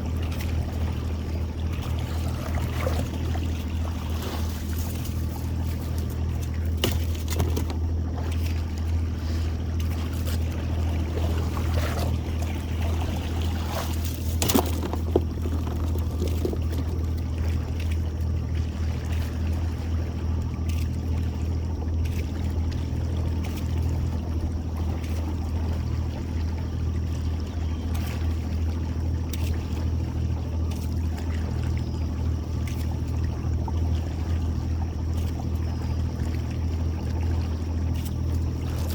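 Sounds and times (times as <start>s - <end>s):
boat motor running: 0.0s - 38.9s
water trickling and splashing: 0.0s - 38.9s.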